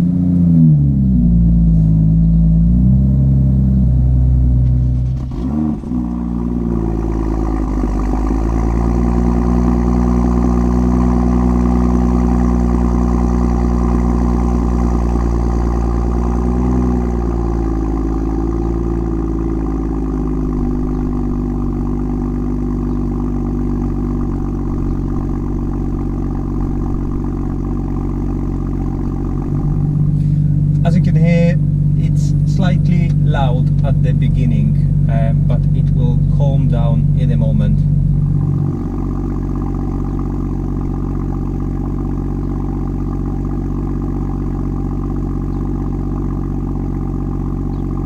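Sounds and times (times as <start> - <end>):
car engine revving: 0.0 - 48.0
car engine fast idle: 4.2 - 48.0.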